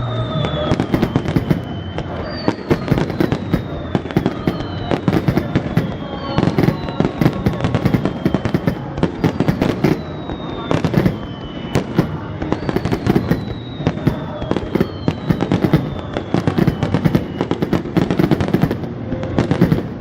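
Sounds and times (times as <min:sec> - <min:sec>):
fireworks bangs and crackles: 0:00.0 - 0:20.0
fireworks whistling down: 0:00.0 - 0:20.0.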